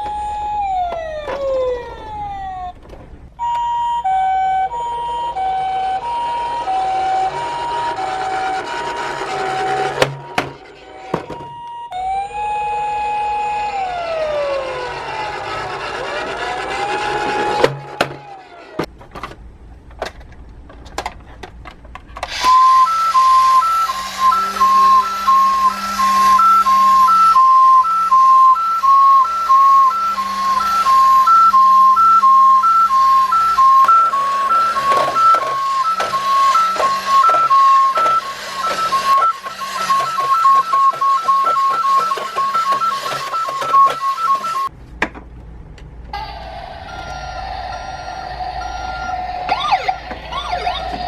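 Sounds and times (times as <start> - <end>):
electronic toy beeping: 0.0 - 2.8, 3.4 - 16.4, 22.3 - 44.7, 46.2 - 51.0.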